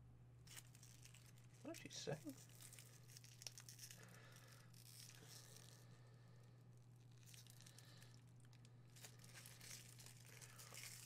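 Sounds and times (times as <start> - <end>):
steady low hum: 0.0 - 11.0
foil wrapper crinkling: 0.5 - 11.0.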